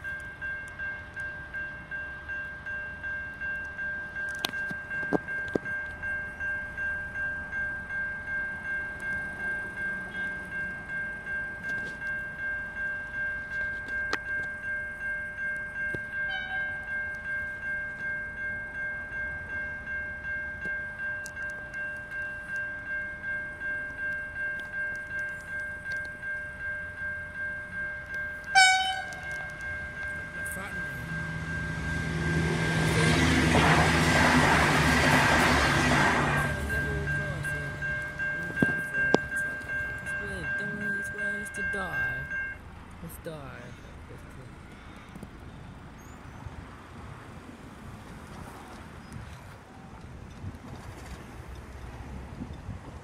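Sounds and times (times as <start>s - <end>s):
level crossing bell ringing: 0.0s - 43.8s.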